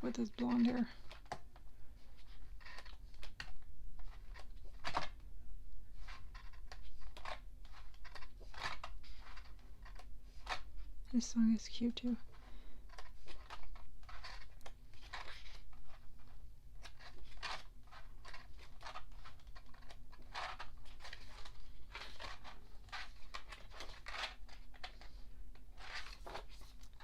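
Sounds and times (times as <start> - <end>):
paper pages turning: 0.0 - 5.2, 5.9 - 10.8, 12.2 - 27.0.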